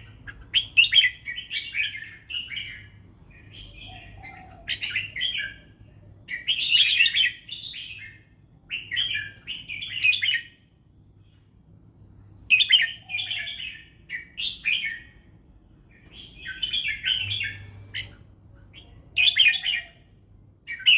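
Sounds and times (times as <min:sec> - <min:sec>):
bird warbling song: 0:00.0 - 0:10.6, 0:12.5 - 0:15.2, 0:15.9 - 0:20.1, 0:20.7 - 0:20.9.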